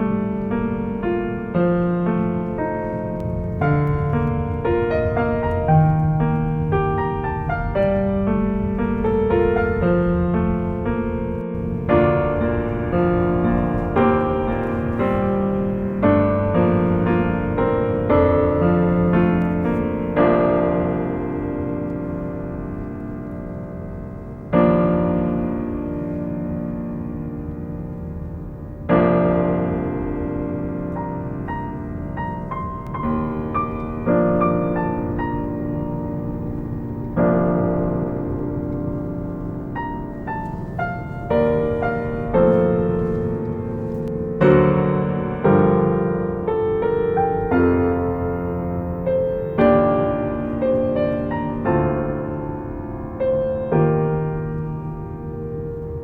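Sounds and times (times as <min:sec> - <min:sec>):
slow piano music: 0:00.0 - 0:56.0.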